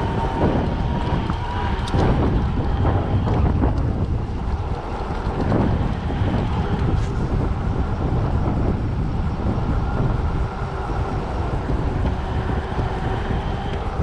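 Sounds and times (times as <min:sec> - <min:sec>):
low rumble of riding over ground: 0:00.0 - 0:14.0
wind buffeting the microphone: 0:00.0 - 0:14.0.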